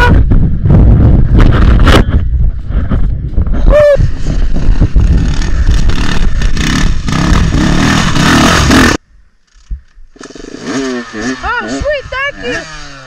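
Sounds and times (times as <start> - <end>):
dirt bike engine under throttle: 1.0 - 13.0.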